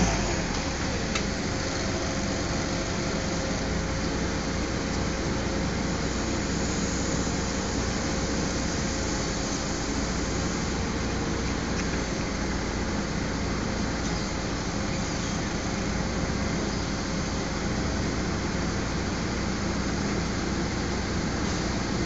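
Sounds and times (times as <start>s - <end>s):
forklift engine running: 0.0s - 22.0s.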